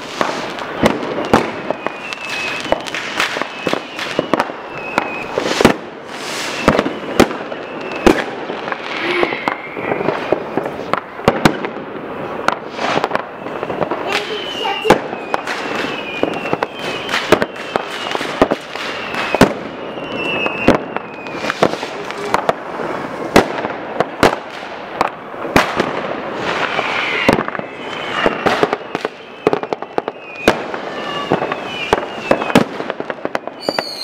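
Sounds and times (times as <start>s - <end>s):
fireworks banging: 0.0s - 34.0s
fireworks crackling: 0.0s - 34.0s
whistling rockets: 0.0s - 34.0s.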